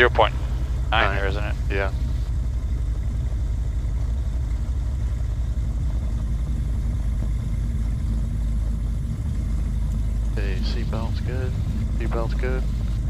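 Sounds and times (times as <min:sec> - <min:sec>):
piston aircraft engines droning: 0:00.0 - 0:13.0.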